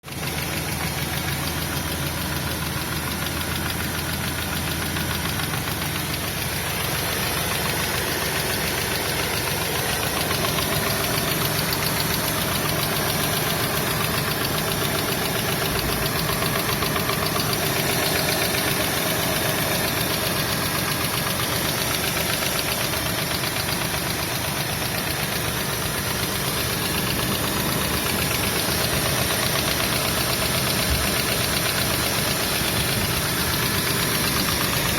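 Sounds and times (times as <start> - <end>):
engine running with rapid knock: 0.0 - 34.9.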